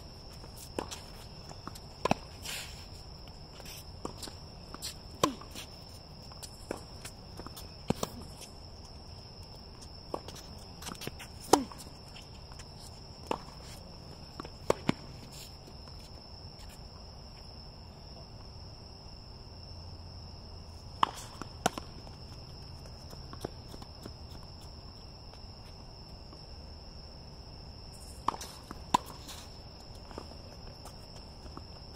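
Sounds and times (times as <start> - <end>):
high insect trill: 0.0 - 31.9.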